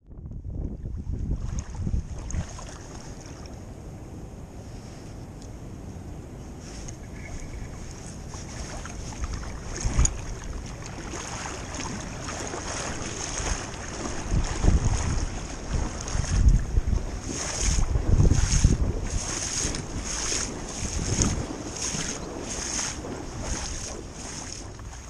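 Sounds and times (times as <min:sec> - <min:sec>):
wind buffeting microphone: 0:00.0 - 0:25.0
creek water running: 0:00.8 - 0:03.7, 0:06.6 - 0:25.0.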